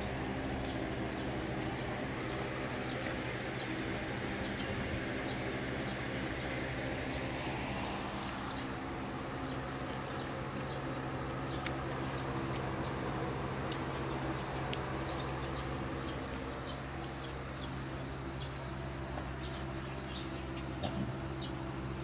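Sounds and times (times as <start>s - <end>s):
electric motor humming: 0.0s - 22.0s.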